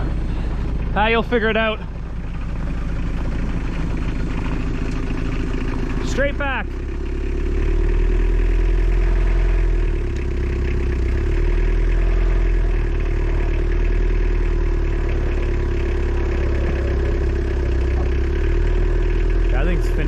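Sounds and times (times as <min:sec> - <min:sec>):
diesel engine at high idle: 0:00.0 - 0:20.0.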